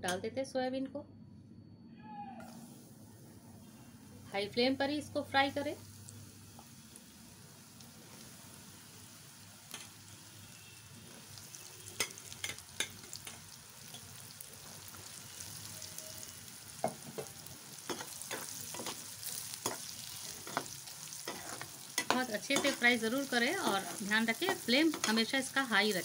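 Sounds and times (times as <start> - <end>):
food deep-frying in oil: 4.0 - 26.0.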